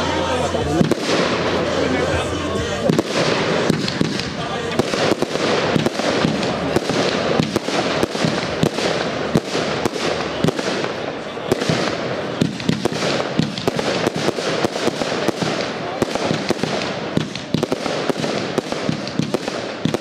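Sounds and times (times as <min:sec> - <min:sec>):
fireworks bangs: 0:00.0 - 0:20.0
fireworks crackle: 0:00.0 - 0:20.0.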